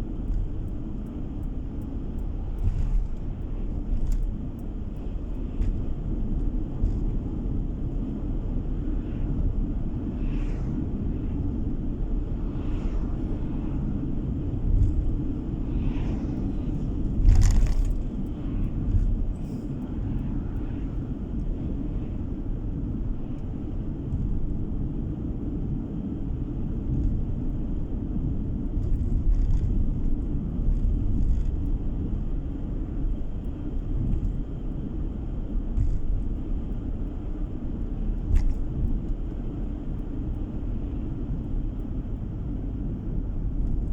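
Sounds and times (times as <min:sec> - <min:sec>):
car interior road rumble: 0:00.0 - 0:43.9.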